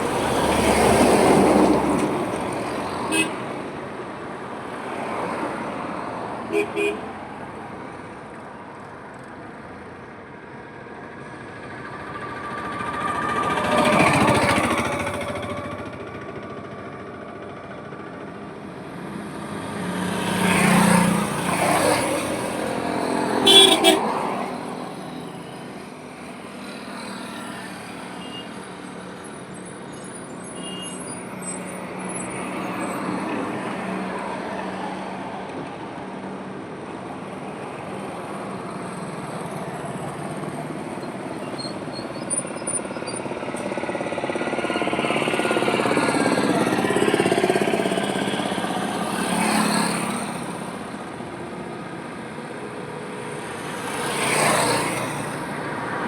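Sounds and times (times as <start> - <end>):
highway traffic passing: 0.0 - 56.0.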